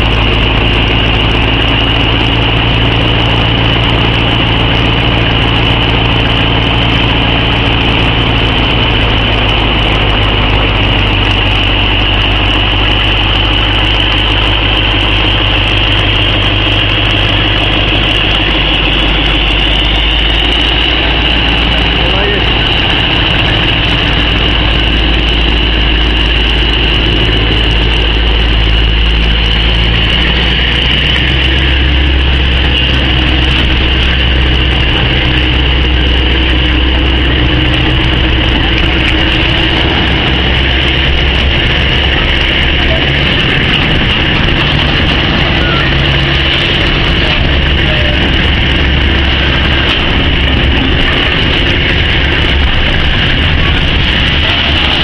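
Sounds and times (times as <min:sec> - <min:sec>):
locomotive engine humming: 0:00.0 - 0:55.0.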